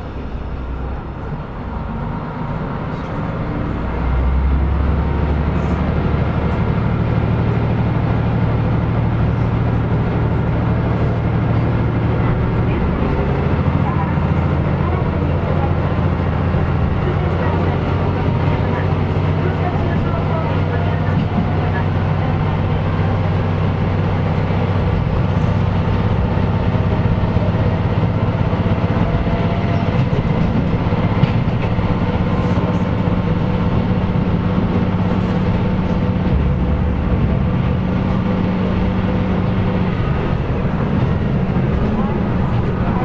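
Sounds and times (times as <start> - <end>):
diesel engine drone: 0.0 - 43.0
train wheels rumbling on rails: 0.0 - 43.0.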